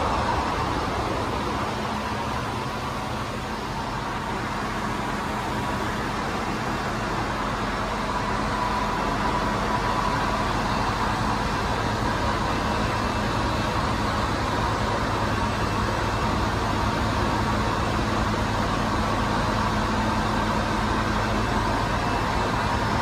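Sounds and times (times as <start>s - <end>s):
engine-room machinery drone: 0.0s - 23.0s
faint high machinery whine: 0.0s - 23.0s.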